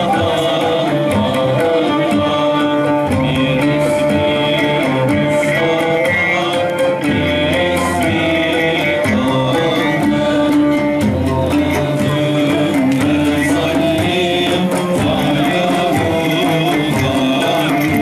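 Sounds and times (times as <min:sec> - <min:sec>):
keyboard: 0:00.0 - 0:18.0
oud: 0:00.0 - 0:18.0
steady percussion beat: 0:00.0 - 0:18.0.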